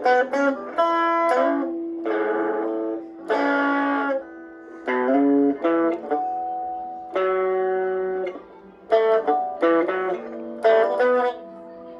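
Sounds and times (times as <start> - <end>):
electric guitar picking: 0.0 - 11.9.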